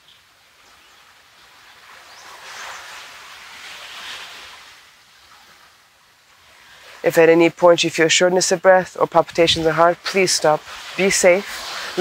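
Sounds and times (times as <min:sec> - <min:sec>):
small waves on shore: 0:00.0 - 0:12.0.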